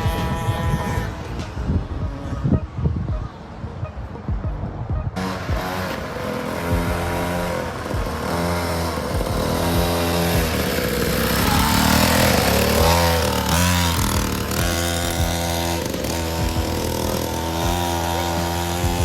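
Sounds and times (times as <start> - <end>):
dirt bike engine revving: 0.0 - 3.3, 4.1 - 19.0.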